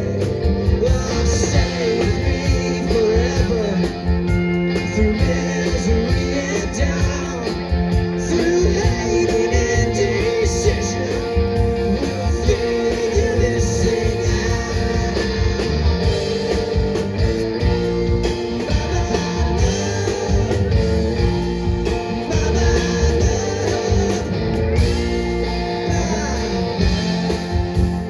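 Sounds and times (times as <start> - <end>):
lead guitar: 0.0 - 28.0
live band playing: 0.0 - 28.0.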